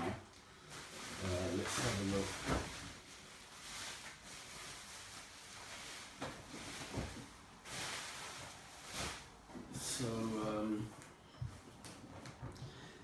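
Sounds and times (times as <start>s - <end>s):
plastic packaging rustling: 0.3s - 11.0s.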